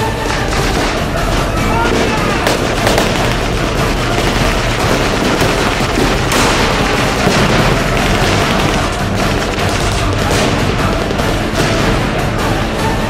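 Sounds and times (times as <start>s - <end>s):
rifle and machine-gun shots: 0.0s - 12.6s
pyrotechnic booms: 0.1s - 12.6s.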